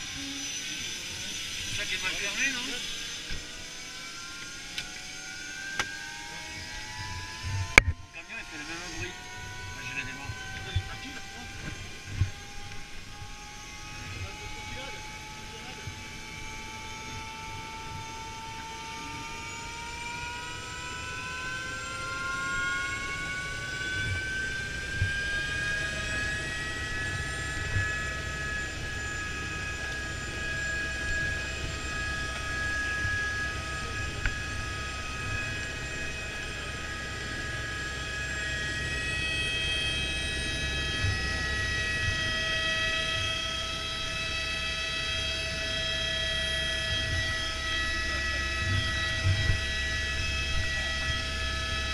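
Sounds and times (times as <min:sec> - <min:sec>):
helicopter turbine whine: 0:00.0 - 0:51.9
low rotor rumble: 0:00.0 - 0:51.9.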